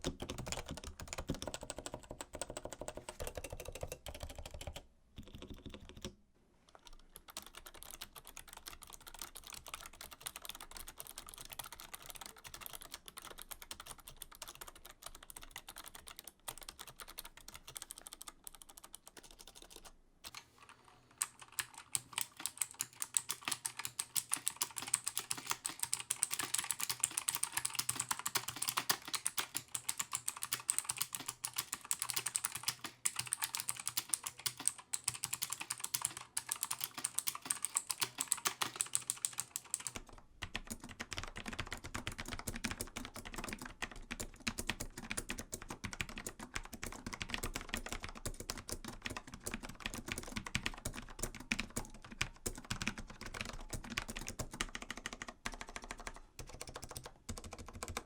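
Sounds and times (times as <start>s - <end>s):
typing on mechanical keyboard: 0.0s - 6.2s, 6.8s - 20.4s, 21.2s - 58.0s.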